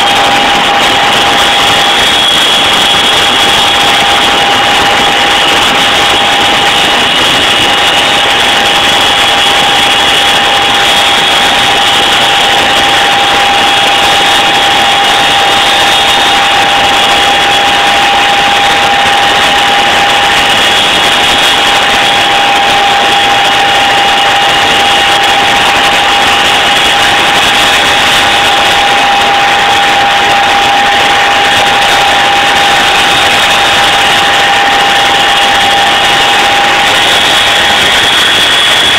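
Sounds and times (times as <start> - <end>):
helicopter turbine and rotor drone: 0.0 - 38.9
high whine: 0.0 - 38.9.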